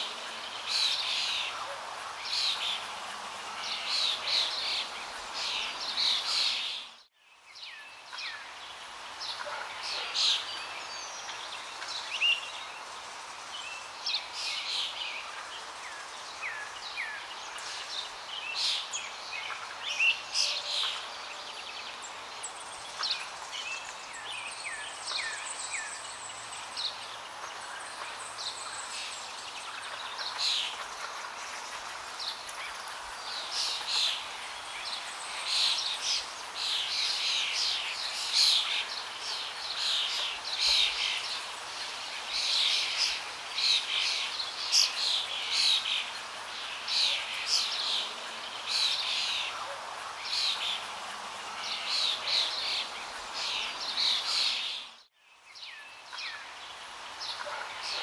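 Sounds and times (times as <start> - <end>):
background hiss: 0.0 - 58.0
small birds chirping: 0.0 - 58.0.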